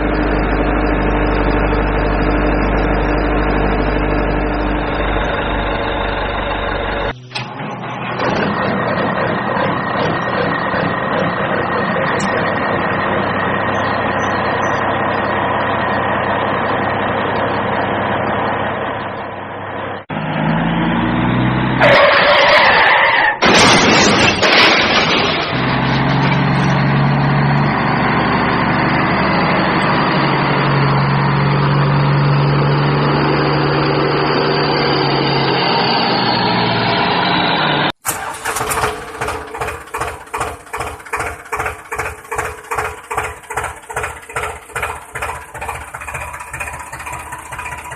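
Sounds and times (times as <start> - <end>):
vehicle engine running: 0.0 - 22.0, 25.4 - 47.9.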